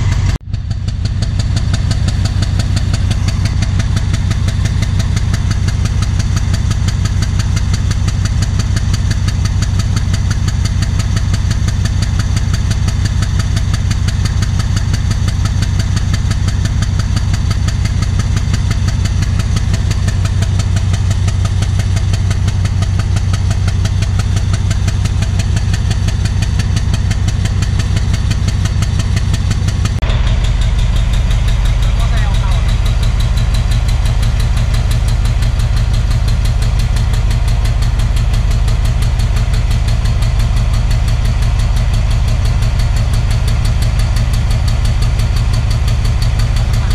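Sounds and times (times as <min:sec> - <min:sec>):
diesel locomotive engine running: 0:00.0 - 0:46.9.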